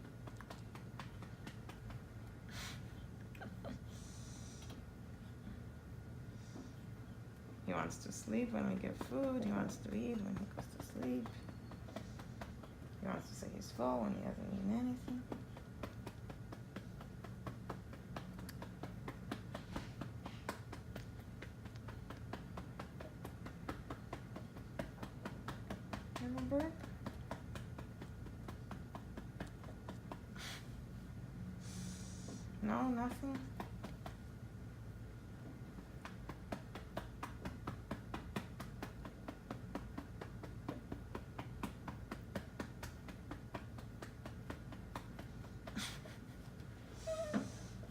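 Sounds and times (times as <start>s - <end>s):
light pats on baby's back: 0.0s - 2.9s, 7.7s - 30.8s, 32.2s - 34.4s, 35.5s - 47.9s
faint low hum: 0.0s - 47.9s.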